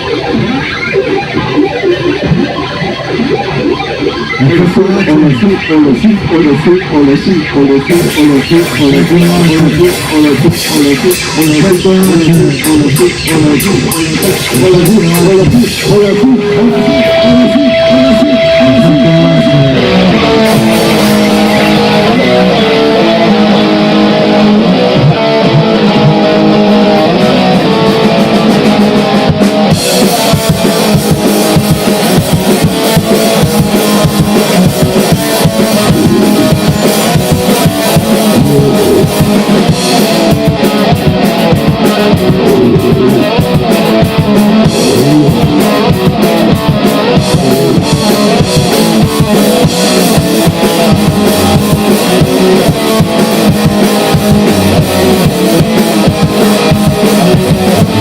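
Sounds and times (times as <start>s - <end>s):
electric guitar riff: 0.0s - 58.0s
fast drumming with cymbals: 6.1s - 24.4s, 25.0s - 58.0s.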